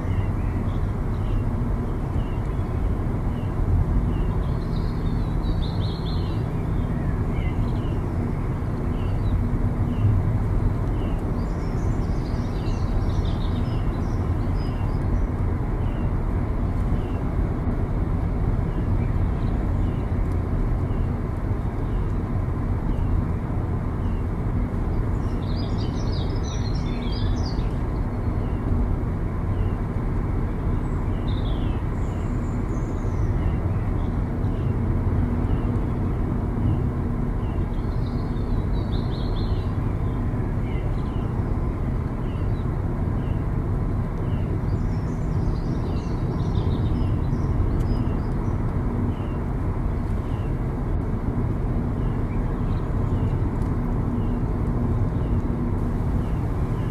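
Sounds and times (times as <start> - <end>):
car road noise: 0.0 - 56.9.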